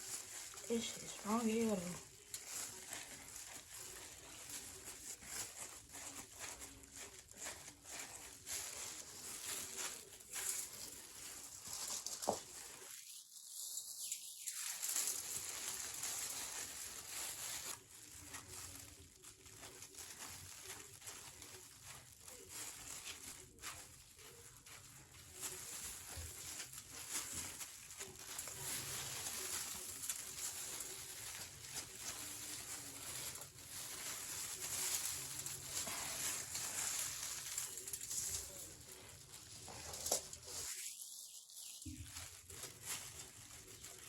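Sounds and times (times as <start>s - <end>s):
hands rustling and tapping objects: 0.0s - 44.0s.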